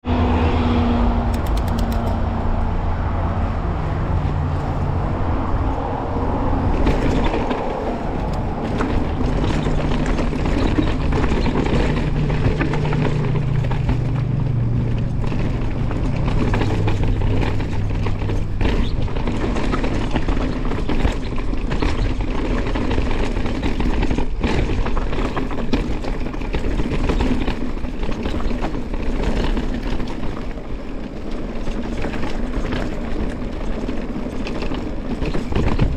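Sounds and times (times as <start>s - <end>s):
rumbling ride noise: 0.0s - 35.9s
knocks and rattles: 5.8s - 35.9s.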